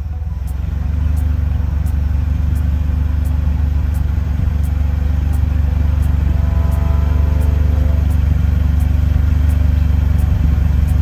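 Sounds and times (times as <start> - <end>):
rattling boat engine running: 0.0 - 11.0.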